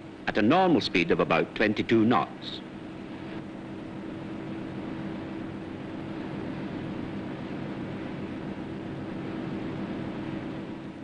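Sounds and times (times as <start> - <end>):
engine room machinery drone: 0.0 - 11.0.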